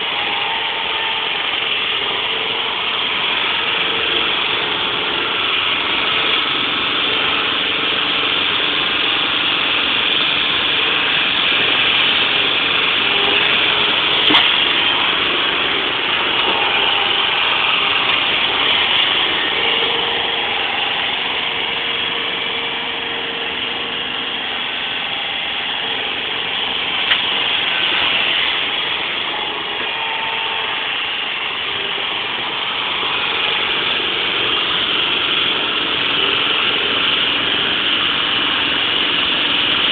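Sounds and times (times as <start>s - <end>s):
forklift engine running: 0.0s - 39.9s.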